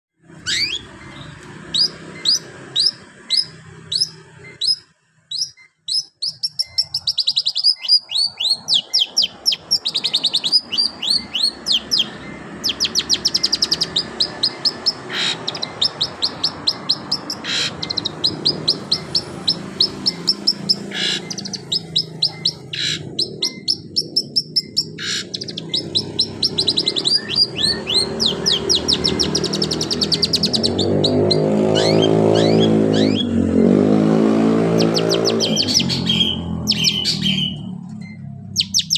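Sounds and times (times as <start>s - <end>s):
bird singing fast trills: 0.2s - 38.9s.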